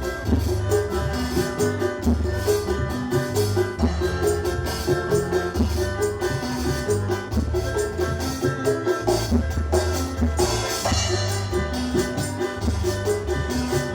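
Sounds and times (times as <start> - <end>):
deep bass notes: 0.0 - 13.9
hand percussion beat: 0.0 - 13.9
held melody line: 0.0 - 13.9.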